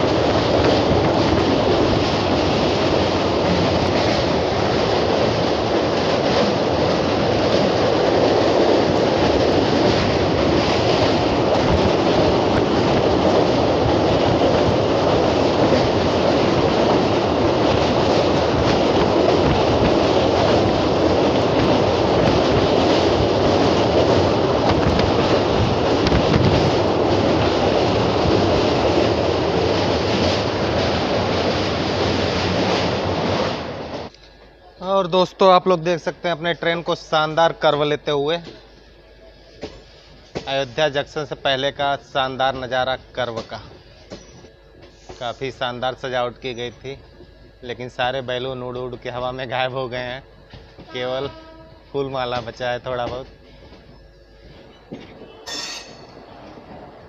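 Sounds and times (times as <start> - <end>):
train wheels rumbling on bridge: 0.0 - 34.6, 35.2 - 57.0.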